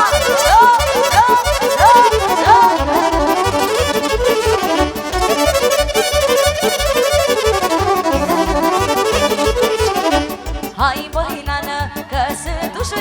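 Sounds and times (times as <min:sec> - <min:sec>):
violin dance melody: 0:00.0 - 0:11.8
steady bass beat: 0:00.0 - 0:12.0
accordion: 0:00.0 - 0:13.0.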